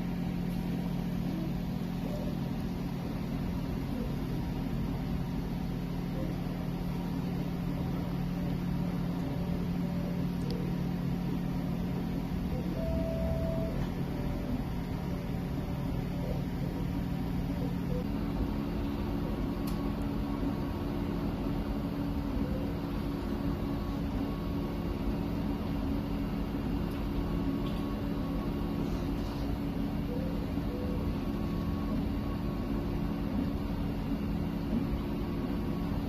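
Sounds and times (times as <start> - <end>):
faint high whines: 0.0 - 36.0
three d printer humming: 0.0 - 36.0.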